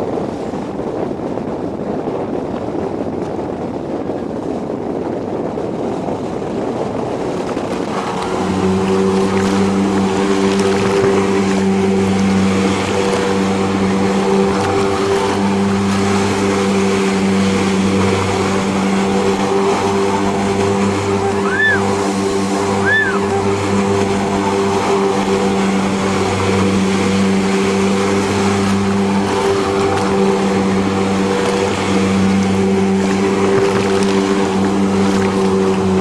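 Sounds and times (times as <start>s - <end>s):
jet ski engine: 0.0s - 36.0s
wind on microphone: 0.0s - 36.0s.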